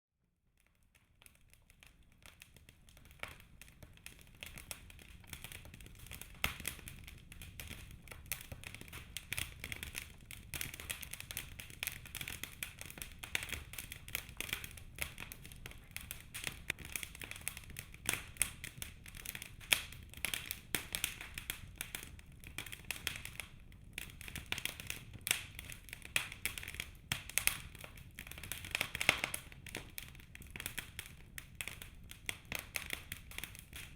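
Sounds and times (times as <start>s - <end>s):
logs crackling in fireplace: 0.6s - 33.9s
low rumble of flames: 1.5s - 33.9s.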